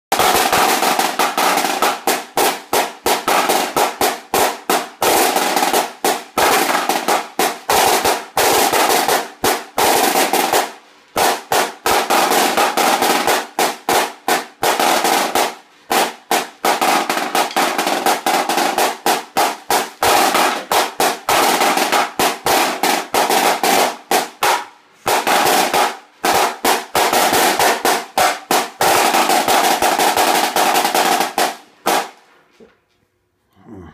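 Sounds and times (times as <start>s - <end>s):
snare drum rolls: 0.1s - 32.3s.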